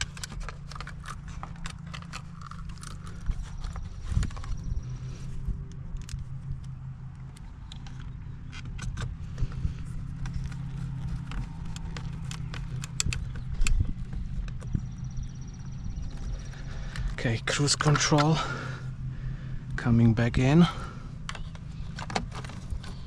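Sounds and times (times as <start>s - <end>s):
plastic parts clicking and rattling: 0.0s - 18.7s, 20.7s - 23.0s
steady low hum: 0.0s - 23.0s.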